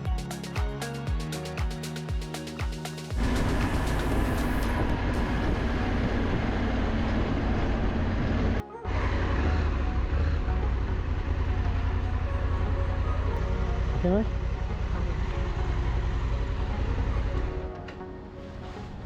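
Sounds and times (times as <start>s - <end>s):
road and wind noise: 3.2s - 19.0s.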